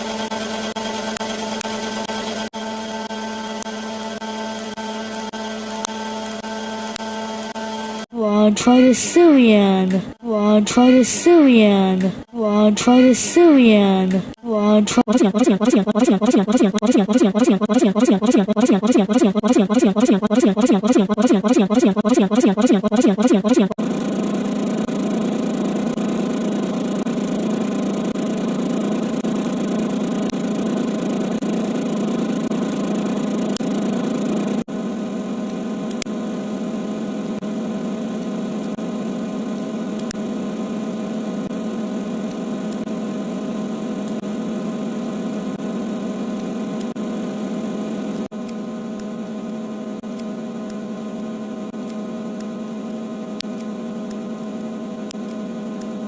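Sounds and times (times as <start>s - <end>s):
steady machine hum: 7.3s - 56.0s.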